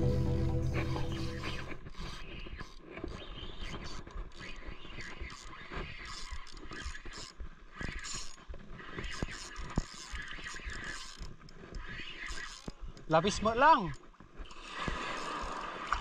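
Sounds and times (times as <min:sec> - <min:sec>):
fishing reel clicking and scraping: 0:01.8 - 0:16.0.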